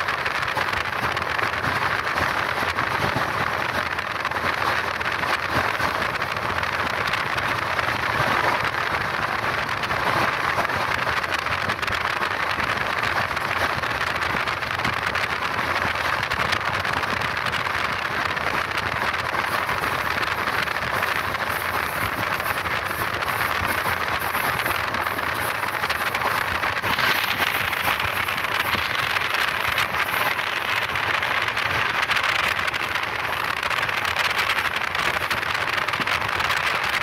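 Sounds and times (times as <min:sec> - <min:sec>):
train wheels on rails: 0:00.0 - 0:37.0
wind rush: 0:00.0 - 0:37.0.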